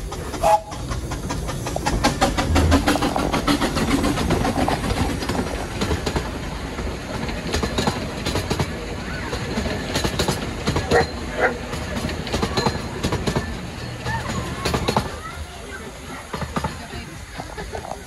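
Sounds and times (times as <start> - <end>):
steam train passing: 0.0 - 18.0
wheels clicking over rails: 0.0 - 18.0.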